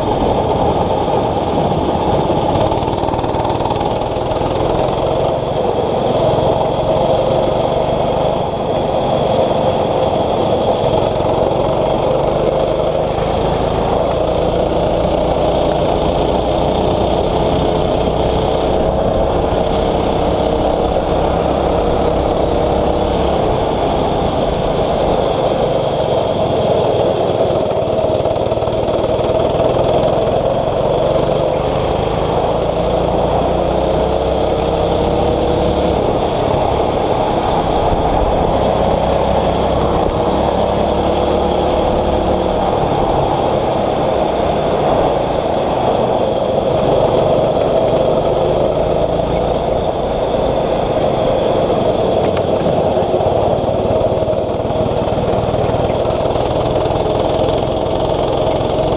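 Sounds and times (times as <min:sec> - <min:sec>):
kart engine running hard: 0:00.0 - 0:58.9.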